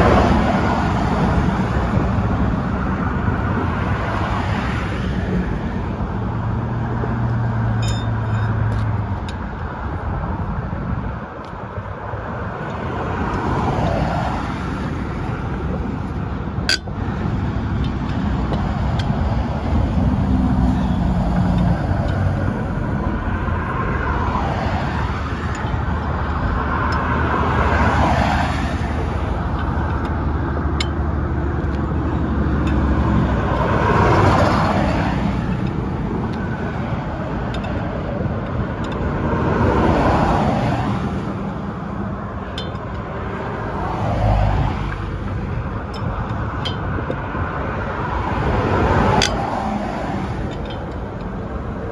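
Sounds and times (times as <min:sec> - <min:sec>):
van engine and tyres rumbling: 0:00.0 - 0:51.9.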